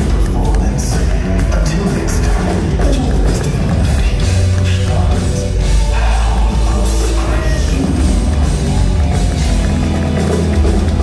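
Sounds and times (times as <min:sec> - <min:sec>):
drum kit: 0:00.0 - 0:11.0
electric guitars: 0:00.0 - 0:11.0
heavy bass line: 0:00.0 - 0:11.0.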